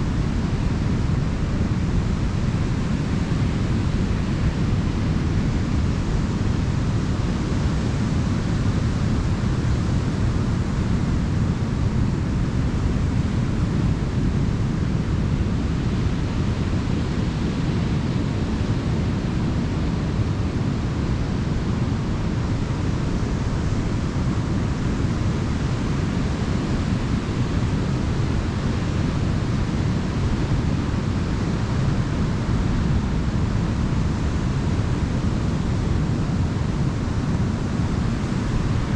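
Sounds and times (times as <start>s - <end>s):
waves breaking on a beach: 0.0s - 38.9s.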